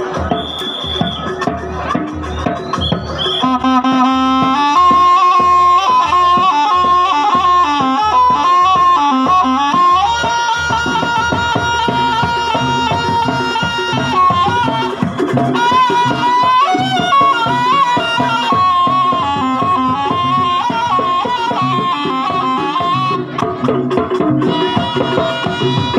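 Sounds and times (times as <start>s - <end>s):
hand drum strokes: 0.0s - 25.9s
reedy shawm melody: 0.0s - 25.9s.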